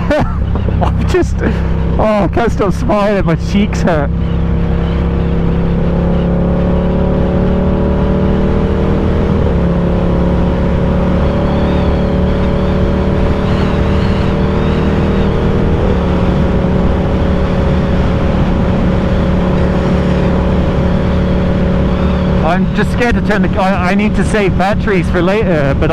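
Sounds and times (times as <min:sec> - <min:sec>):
motorcycle engine cruising: 0:00.0 - 0:25.9.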